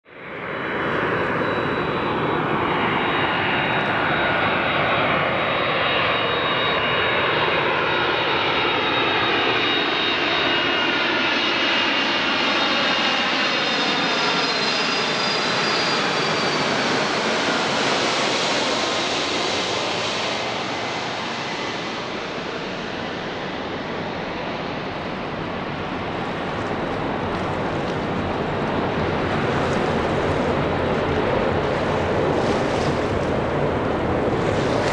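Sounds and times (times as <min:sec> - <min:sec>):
jet airliner passing overhead: 0:00.1 - 0:34.9.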